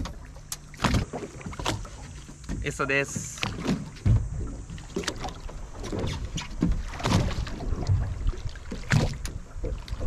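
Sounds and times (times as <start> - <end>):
sea wash: 0.0 - 10.0
water slapping against boat hull: 0.0 - 10.0.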